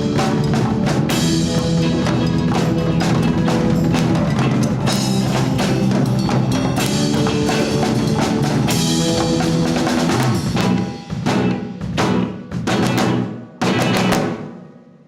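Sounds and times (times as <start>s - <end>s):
keyboard notes: 0.0s - 14.2s
sustained bass: 0.0s - 14.2s
drum kit: 0.0s - 15.0s.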